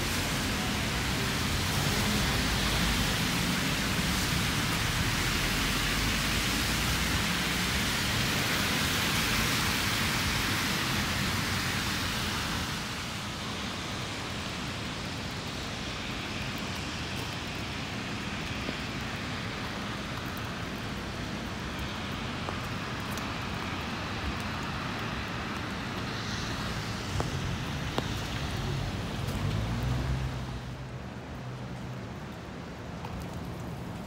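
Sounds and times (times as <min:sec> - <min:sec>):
rain hissing: 0:00.0 - 0:31.9
low traffic rumble: 0:00.0 - 0:34.0
tyres on wet pavement: 0:00.0 - 0:34.0.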